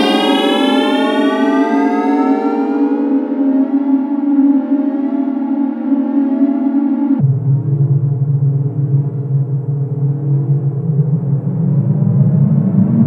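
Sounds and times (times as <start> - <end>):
synthesizer drone: 0.0 - 13.0.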